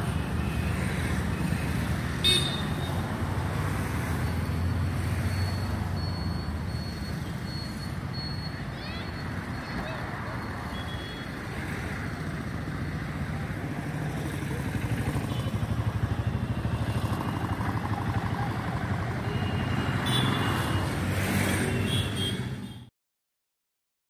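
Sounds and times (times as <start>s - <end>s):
vehicle engine humming: 0.0s - 22.8s
street traffic noise: 0.0s - 22.9s.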